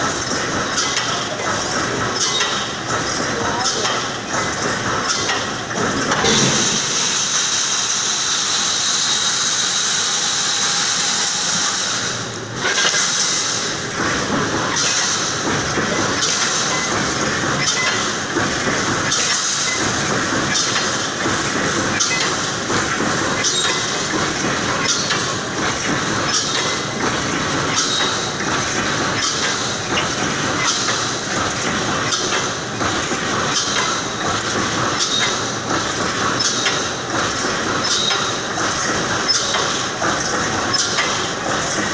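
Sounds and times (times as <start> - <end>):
clatter of machine strokes: 0.0 - 41.9.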